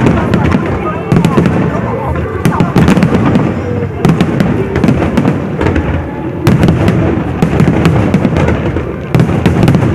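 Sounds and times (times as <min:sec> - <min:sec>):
fireworks bangs and crackles: 0:00.0 - 0:09.9.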